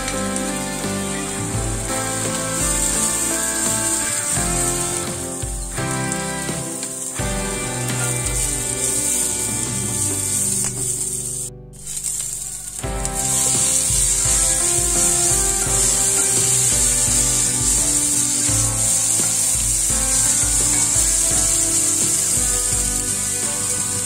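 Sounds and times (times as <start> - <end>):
background music: 0.0 - 24.0
onions sizzling in oil: 0.1 - 11.2, 11.8 - 24.0.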